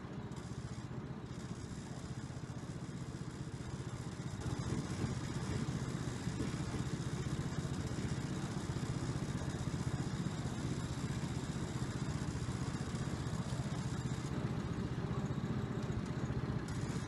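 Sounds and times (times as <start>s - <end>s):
small petrol engine chugging: 0.0s - 17.0s.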